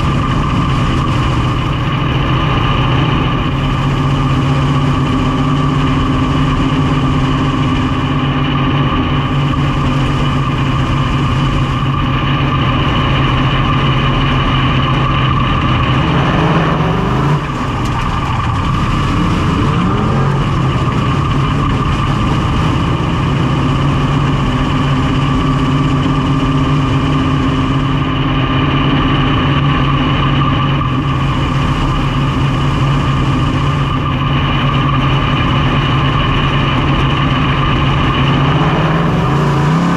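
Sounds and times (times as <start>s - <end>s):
race car engine running loud: 0.0s - 39.9s.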